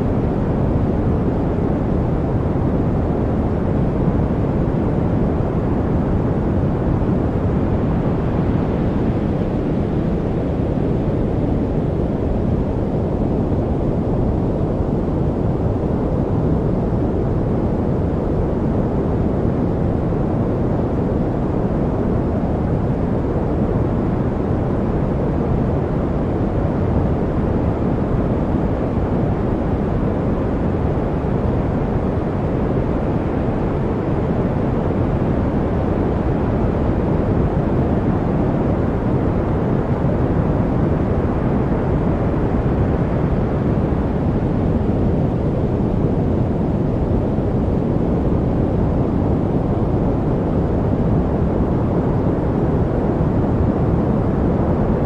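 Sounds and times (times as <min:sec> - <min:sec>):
deep steady white noise: 0:00.0 - 0:55.0.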